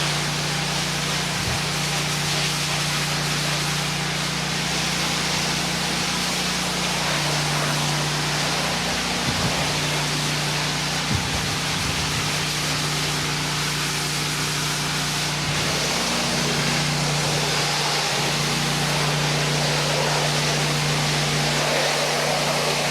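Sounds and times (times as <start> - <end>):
high-pressure water spray hiss: 0.0 - 22.9
pressure washer engine hum: 0.0 - 22.9.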